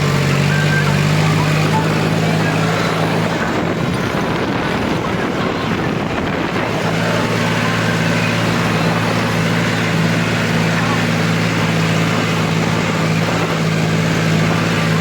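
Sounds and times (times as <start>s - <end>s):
harvesting machine engine humming: 0.0s - 15.0s
loud rushing noise: 0.0s - 15.0s.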